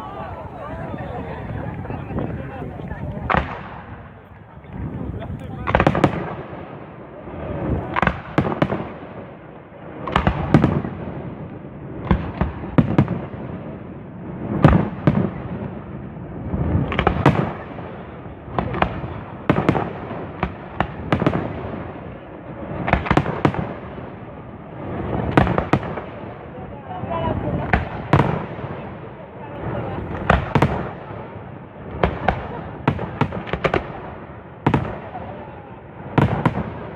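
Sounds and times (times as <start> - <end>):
fireworks rumble: 0.0 - 36.9.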